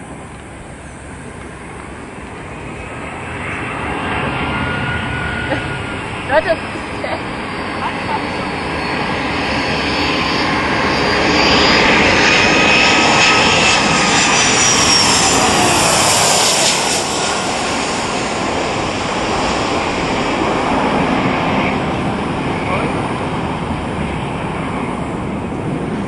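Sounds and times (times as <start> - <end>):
jet engine roaring and whining: 0.0 - 26.0.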